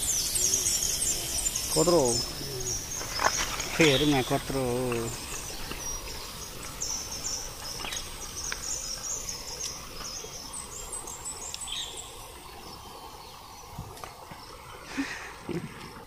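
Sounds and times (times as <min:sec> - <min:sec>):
insects trilling: 0:00.0 - 0:15.8
outdoor background noise: 0:00.0 - 0:16.0.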